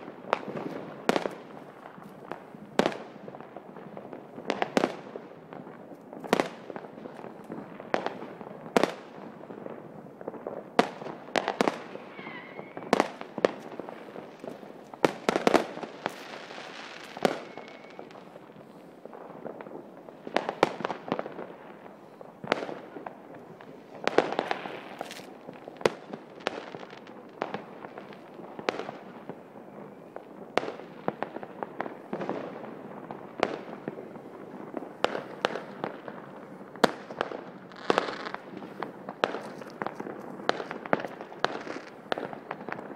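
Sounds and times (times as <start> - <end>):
faint bangs and crackle: 0.0 - 42.9
firework bangs: 0.0 - 42.9.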